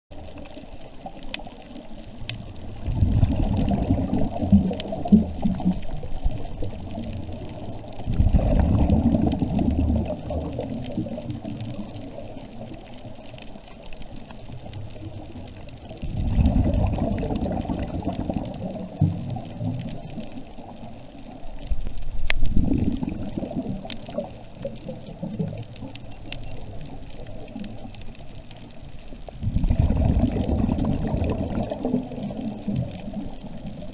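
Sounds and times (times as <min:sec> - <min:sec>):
diver's bubbles gurgling underwater: 0:00.1 - 0:33.9
faint clicks: 0:00.2 - 0:33.9.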